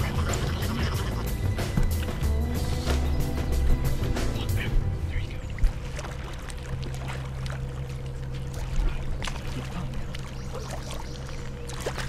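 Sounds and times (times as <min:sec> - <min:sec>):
steady low hum: 0:00.0 - 0:12.0
water splashing and trickling: 0:00.0 - 0:12.0.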